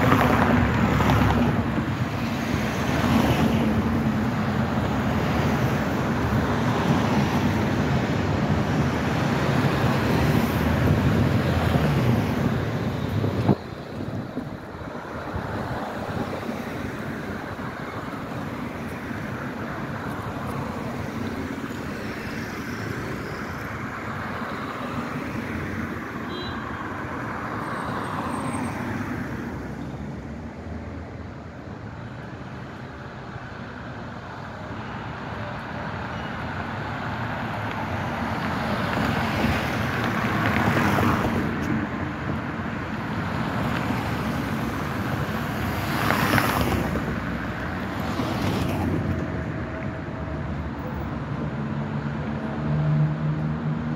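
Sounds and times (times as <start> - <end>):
cars driving past: 0.0 - 53.9.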